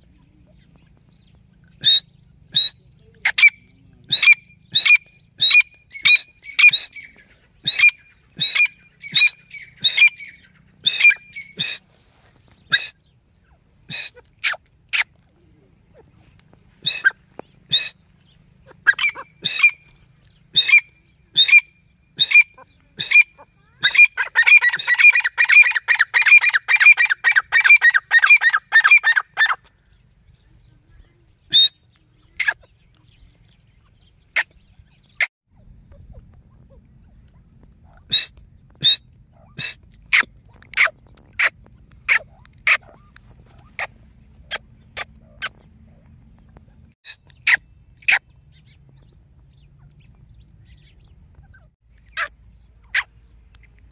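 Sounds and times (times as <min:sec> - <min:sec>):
francolins calling: 0:00.0 - 0:53.9.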